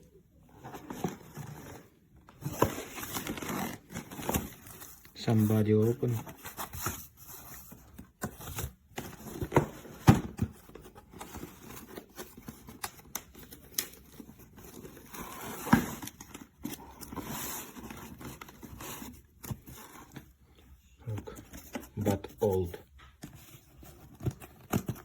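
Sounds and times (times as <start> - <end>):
cardboard packaging handled: 0.4 - 20.4, 21.0 - 25.0.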